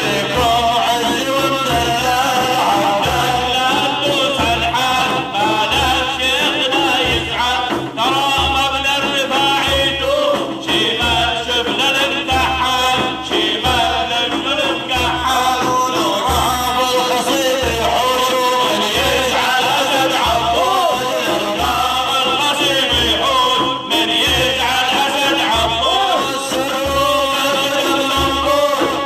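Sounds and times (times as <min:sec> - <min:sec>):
instrumental accompaniment: 0:00.0 - 0:29.0
low drum beat: 0:00.0 - 0:29.0
ornamented singing: 0:00.0 - 0:29.0.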